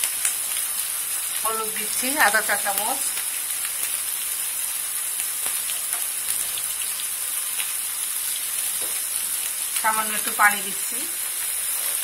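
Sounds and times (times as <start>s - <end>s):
oil sizzling and popping: 0.0s - 12.0s.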